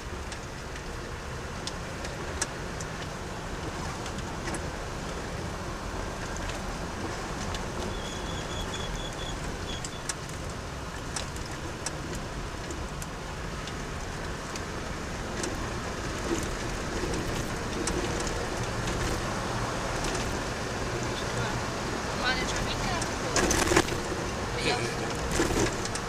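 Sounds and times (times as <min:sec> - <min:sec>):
car engine and tyre rumble: 0:00.0 - 0:26.0
gravel and bodywork rattles: 0:00.0 - 0:26.0.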